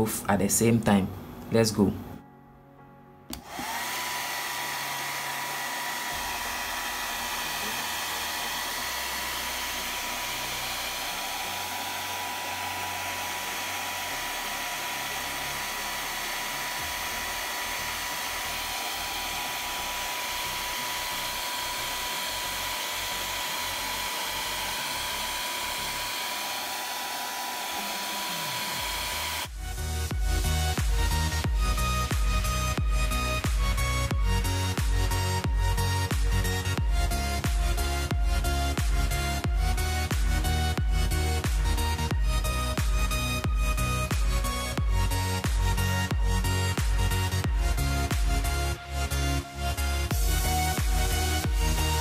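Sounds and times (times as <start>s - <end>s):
hair dryer blowing air: 3.3s - 52.0s.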